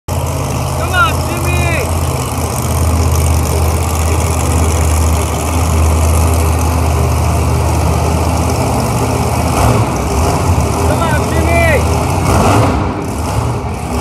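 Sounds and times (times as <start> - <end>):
truck engine idling: 0.1 - 14.0.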